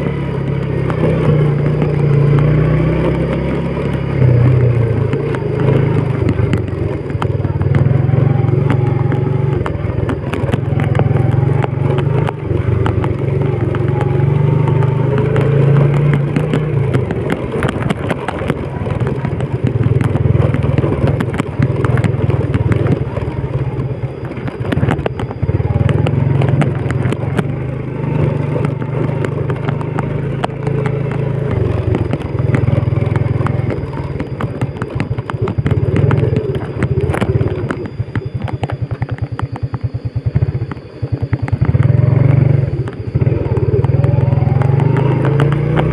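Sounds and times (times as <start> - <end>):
motorcycle clattering over bumps: 0.0 - 45.9
motorcycle engine revving: 0.0 - 45.9.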